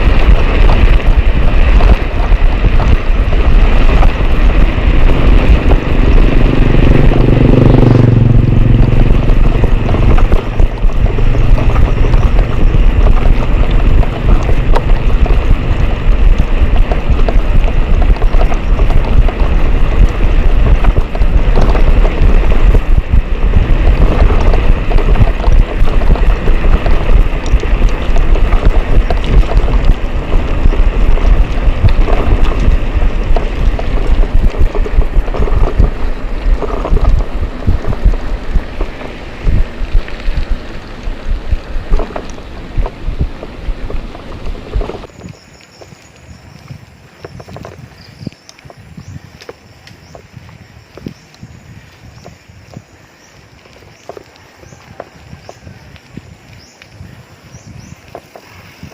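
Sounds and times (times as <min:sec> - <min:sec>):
low rumble: 0:00.0 - 0:49.2
wind buffeting microphone: 0:00.0 - 0:58.9.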